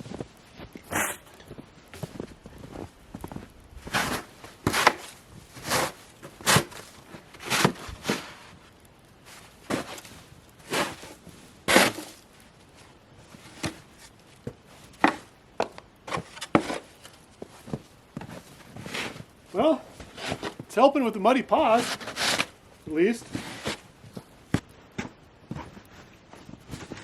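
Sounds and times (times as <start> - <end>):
footsteps crunching through snow: 0.0 - 14.8, 16.1 - 27.0.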